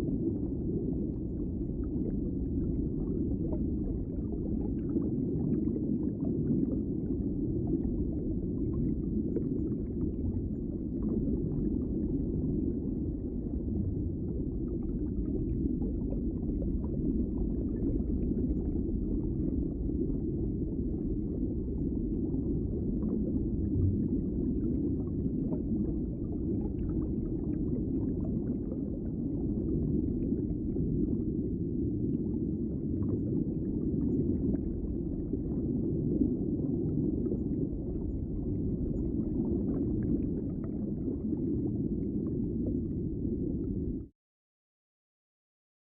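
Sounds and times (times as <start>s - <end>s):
muffled underwater rumble: 0.0s - 44.1s.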